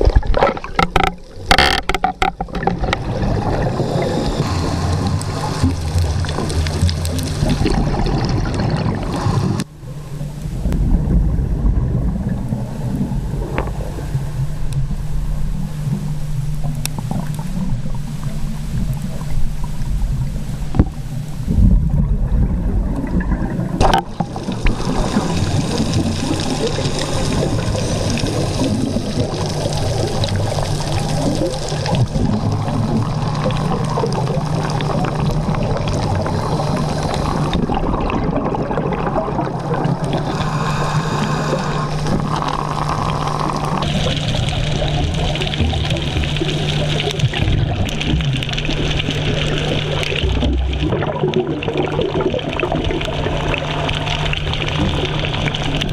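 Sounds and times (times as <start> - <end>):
bubbling of exhaled air: 0.0 - 55.9
underwater low drone: 0.0 - 55.9.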